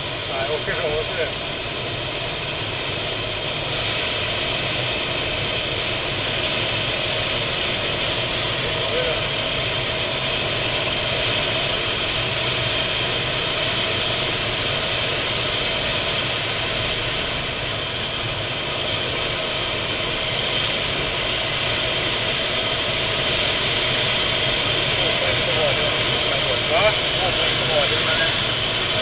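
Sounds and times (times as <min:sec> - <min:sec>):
car engine at high speed: 0:00.0 - 0:29.0.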